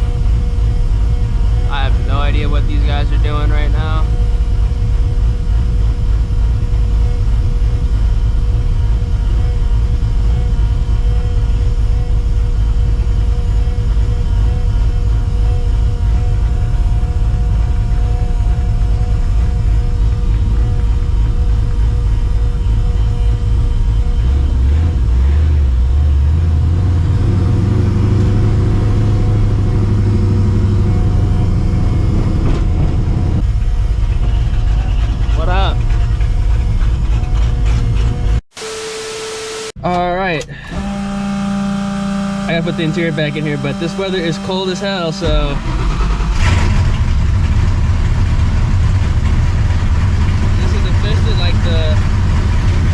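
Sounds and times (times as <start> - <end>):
car engine rumble: 0.0 - 52.9
faint supercharger whine: 0.0 - 52.9.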